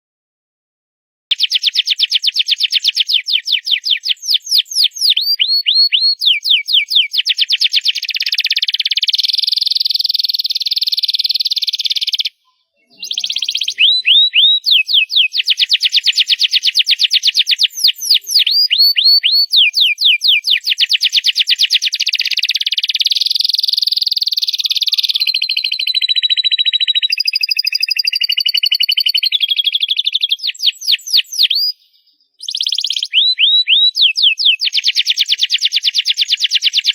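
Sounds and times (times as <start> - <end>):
canary singing trills: 1.3 - 36.9.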